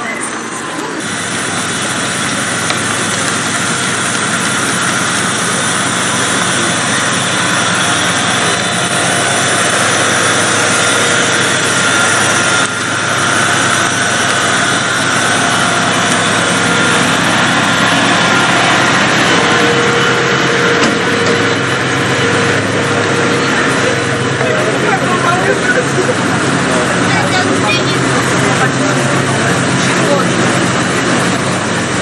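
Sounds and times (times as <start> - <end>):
diesel train engines droning: 0.0 - 32.0
whining tones: 0.0 - 32.0.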